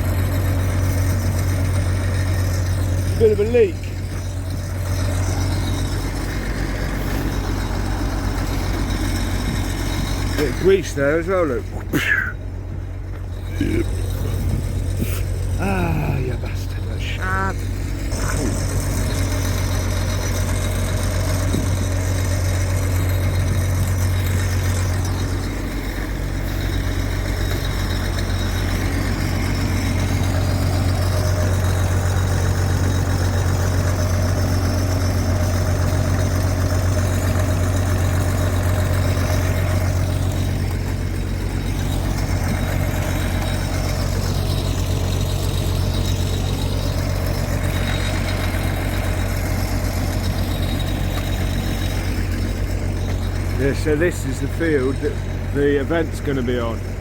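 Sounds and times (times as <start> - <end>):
heavy machinery engine humming: 0.0 - 57.0.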